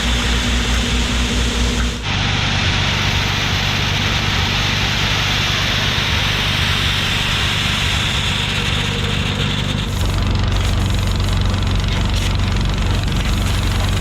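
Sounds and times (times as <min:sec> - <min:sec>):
combine engine hum: 0:00.0 - 0:14.0
constant hiss: 0:00.0 - 0:14.0.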